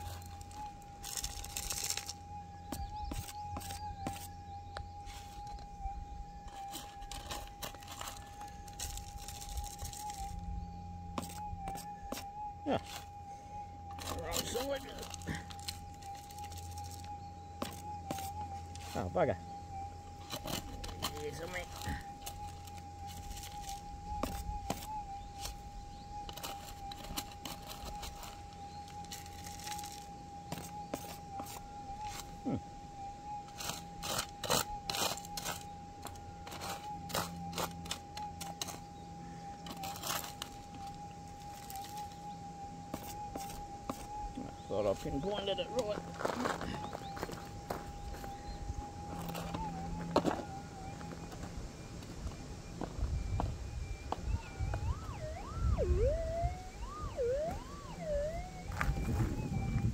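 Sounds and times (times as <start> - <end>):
gravelly soil scratching: 0.0 - 59.9
metal detector threshold tone: 0.0 - 59.9.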